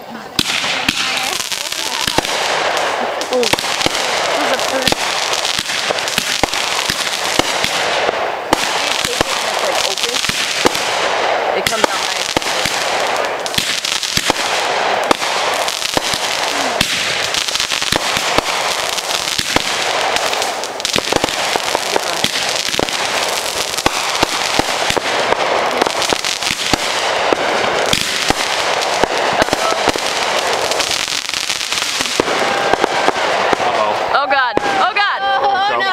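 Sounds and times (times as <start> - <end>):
fireworks crackling: 0.0 - 35.9
fireworks sharp reports: 0.0 - 35.9.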